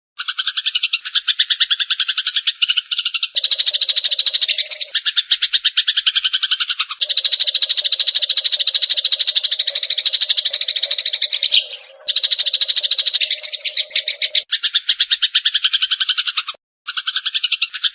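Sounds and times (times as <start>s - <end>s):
sparrows chattering: 0.2s - 17.9s.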